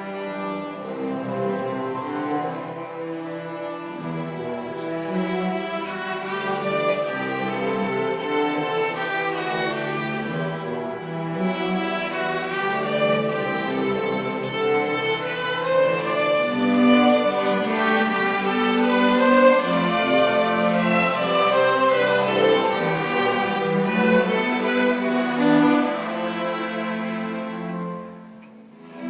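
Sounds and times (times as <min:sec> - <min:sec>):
violin and cello music: 0:00.0 - 0:29.0.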